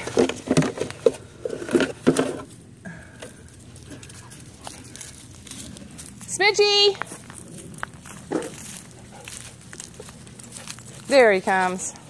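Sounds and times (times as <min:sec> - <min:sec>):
footsteps: 0:00.0 - 0:12.0
handling knocks and rustles: 0:00.0 - 0:12.0.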